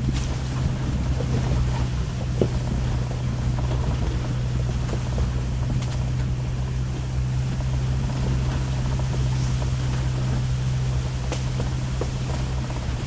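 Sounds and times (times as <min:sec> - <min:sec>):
car engine and road noise: 0:00.0 - 0:13.0
wind on microphone: 0:00.0 - 0:13.0.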